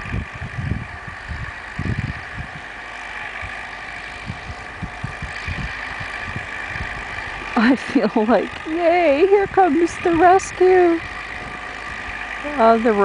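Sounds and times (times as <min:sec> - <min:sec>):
tractor engine running: 0:00.0 - 0:13.0
wind buffeting microphone: 0:00.0 - 0:13.0.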